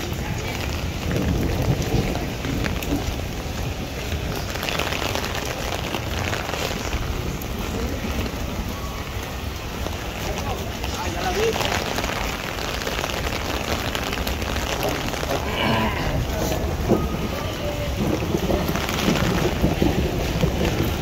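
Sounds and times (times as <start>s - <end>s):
heavy rain on pavement: 0.0s - 21.0s.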